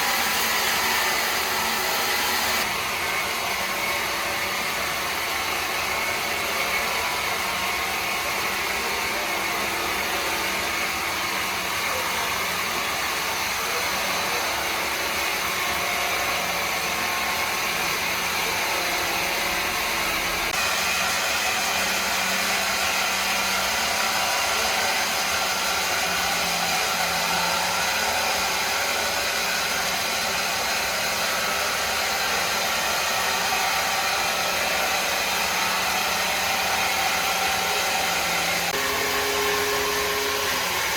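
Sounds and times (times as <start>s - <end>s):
woodworking machinery whirring: 0.0s - 40.9s.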